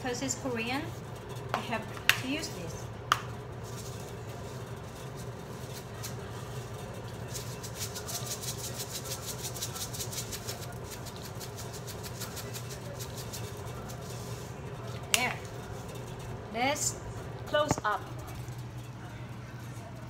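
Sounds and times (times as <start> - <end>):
seeds rattling in shaker jar: 0.8 - 19.6.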